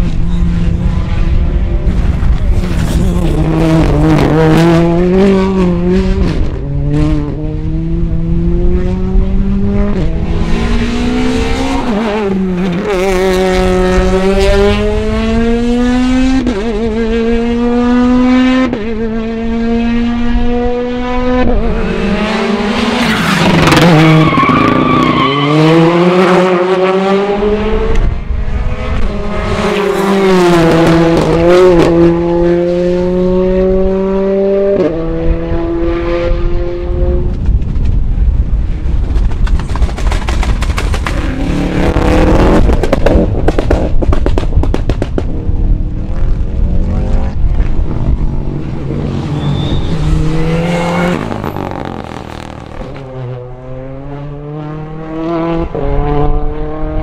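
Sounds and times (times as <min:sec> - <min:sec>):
wind rumble on microphone: 0:00.0 - 0:24.2, 0:26.1 - 0:57.0
rally car engines at full throttle: 0:00.0 - 0:57.0.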